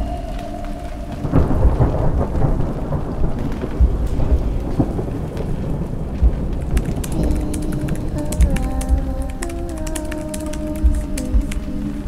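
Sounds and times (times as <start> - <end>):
deep low rumble: 0.0 - 9.8
steady hiss: 0.0 - 12.0.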